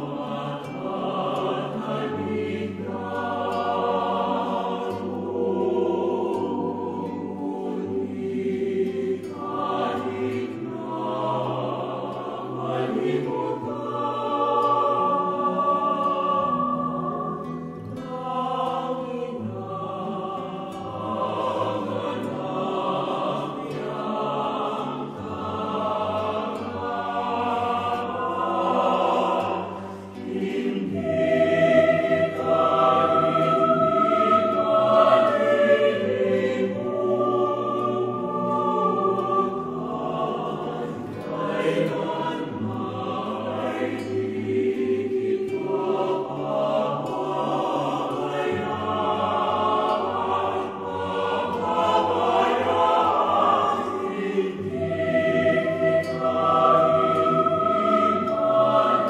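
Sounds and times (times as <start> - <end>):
choir singing slow chords: 0.0 - 59.0.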